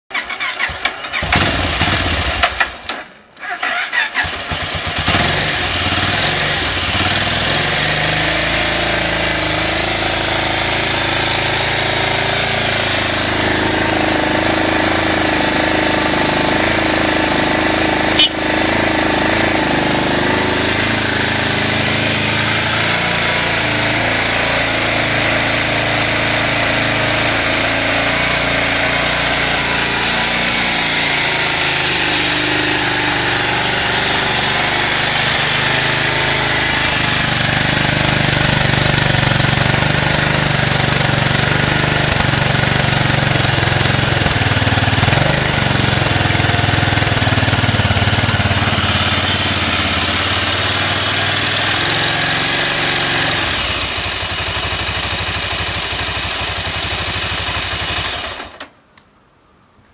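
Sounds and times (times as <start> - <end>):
motorcycle engine idling: 3.8 - 58.2.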